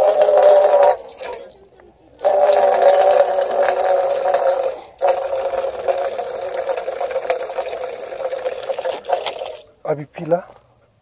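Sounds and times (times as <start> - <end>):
water splashing into metal bowl: 0.0 - 9.7.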